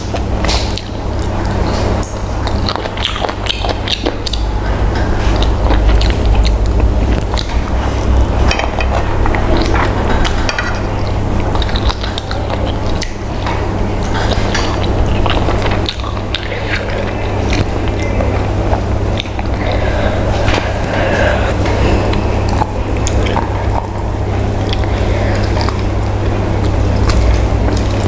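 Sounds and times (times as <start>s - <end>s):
person chewing food: 0.0s - 28.0s
steady low hum: 0.0s - 28.0s.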